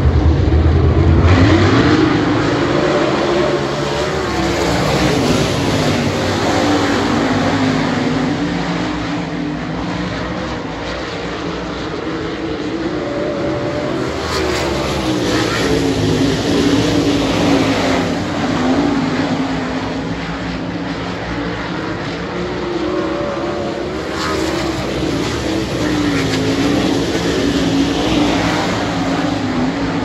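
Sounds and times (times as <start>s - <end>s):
race car engines: 0.0s - 30.0s.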